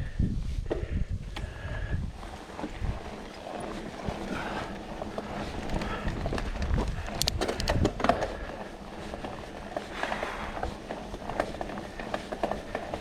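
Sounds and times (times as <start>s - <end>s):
bike clicking and knocking: 2.2s - 13.0s.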